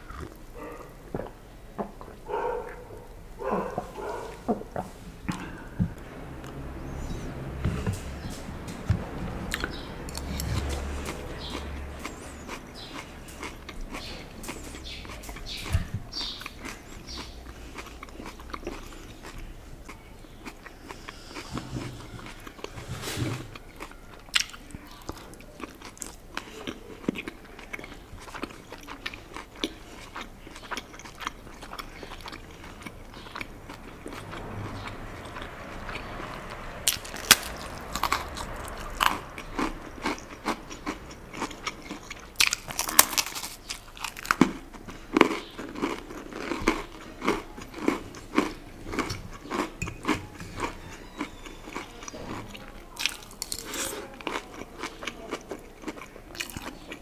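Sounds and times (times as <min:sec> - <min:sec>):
chewing with sharp crunches: 0:00.0 - 0:57.0.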